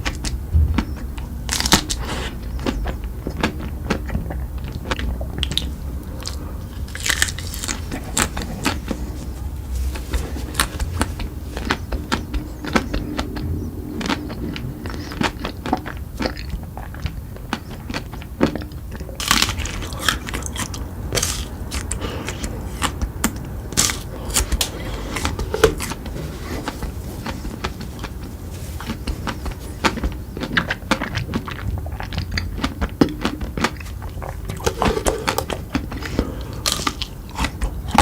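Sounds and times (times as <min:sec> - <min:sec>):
crunchy chocolate chewing: 0:00.0 - 0:38.0.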